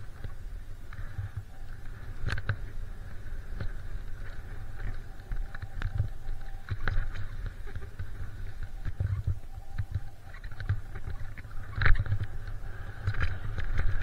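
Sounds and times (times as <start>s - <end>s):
low wind rumble: 0.0s - 14.0s
skis sliding over snow: 0.0s - 14.0s.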